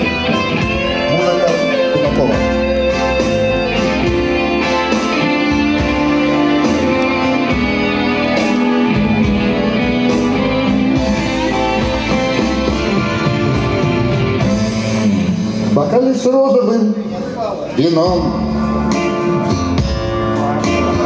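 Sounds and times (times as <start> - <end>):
guitar playing slow blues: 0.0 - 15.8, 18.3 - 21.0
steady bass line: 0.0 - 16.0, 18.0 - 21.0.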